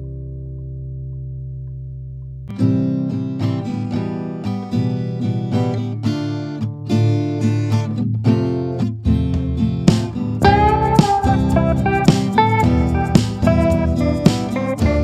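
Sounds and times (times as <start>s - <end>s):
acoustic guitar strumming chords: 2.5s - 15.0s.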